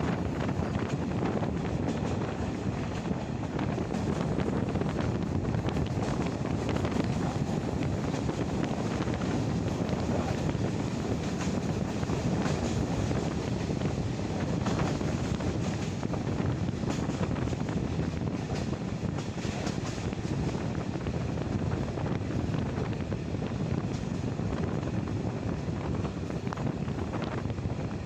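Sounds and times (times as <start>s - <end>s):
train rumbling on track: 0.0s - 28.0s
wind buffeting microphone: 0.0s - 28.0s.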